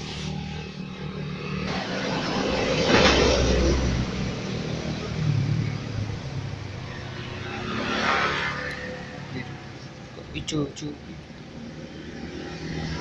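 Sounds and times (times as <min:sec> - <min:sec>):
motor vehicle passing: 0:00.0 - 0:13.0.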